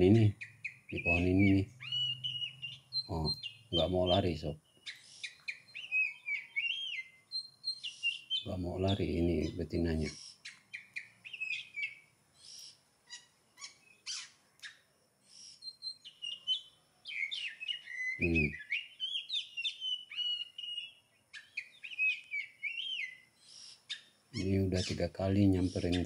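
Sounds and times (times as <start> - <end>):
songbird whistling and warbling: 0.0 - 26.0.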